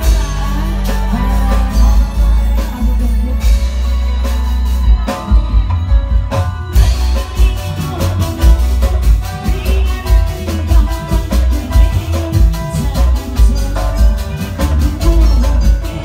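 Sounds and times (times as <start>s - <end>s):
live band music with bass beat: 0.0s - 16.0s
woman singing into microphone: 0.0s - 16.0s.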